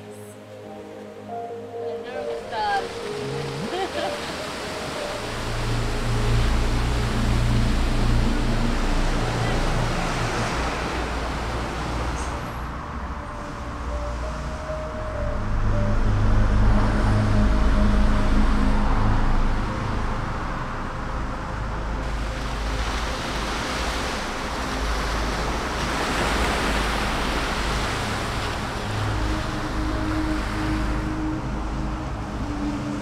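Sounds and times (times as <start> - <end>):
waves washing onto beach: 2.3 - 14.8, 17.8 - 33.0.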